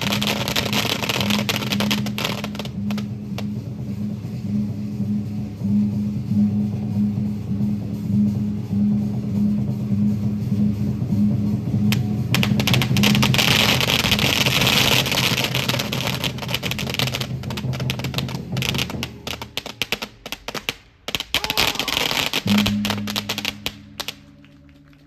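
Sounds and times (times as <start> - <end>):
steady low drone: 0.0 - 19.5, 22.4 - 25.0
firecrackers crackling: 0.0 - 25.0.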